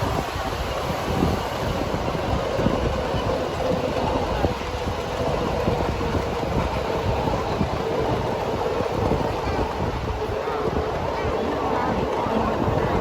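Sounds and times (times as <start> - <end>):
miniature train rolling: 0.0 - 13.0
wheels clacking on rail joints: 0.0 - 13.0.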